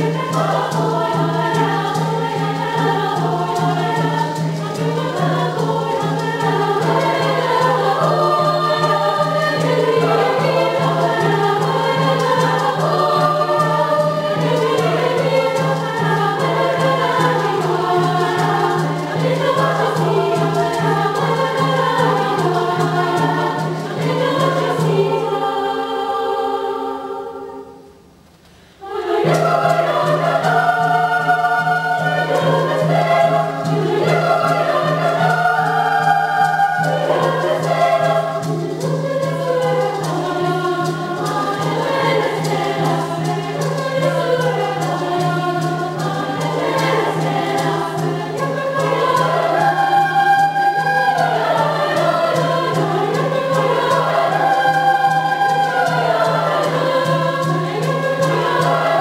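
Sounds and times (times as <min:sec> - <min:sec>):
choir singing: 0:00.0 - 0:28.0, 0:28.8 - 0:59.0.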